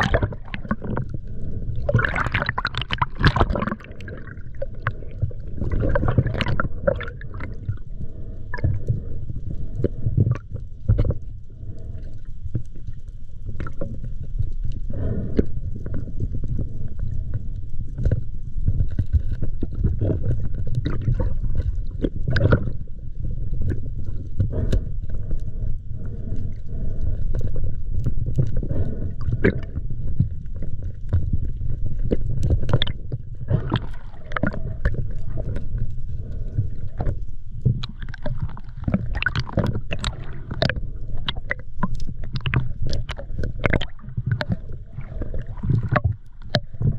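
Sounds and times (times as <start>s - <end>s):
underwater rumble and gurgling: 0.0s - 46.9s.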